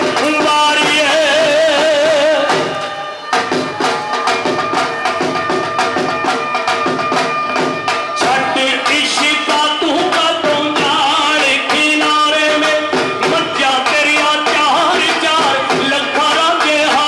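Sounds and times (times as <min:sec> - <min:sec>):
driving drum beat: 0:00.0 - 0:17.0.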